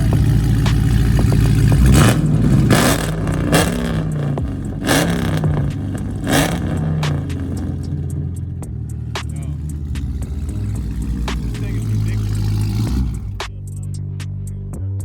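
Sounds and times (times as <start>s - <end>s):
loud car engine revving: 0.0s - 13.7s.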